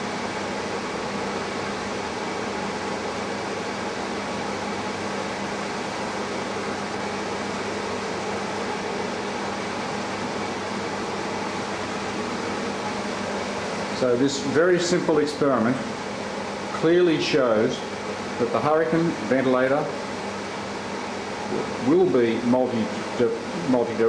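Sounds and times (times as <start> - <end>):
blower rushing air: 0.0 - 24.0.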